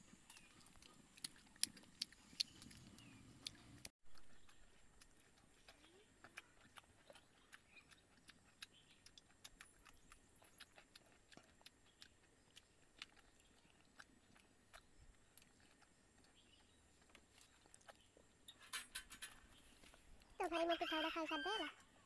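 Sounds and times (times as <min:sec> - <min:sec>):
man chewing with mouth clicks: 0:00.0 - 0:20.4.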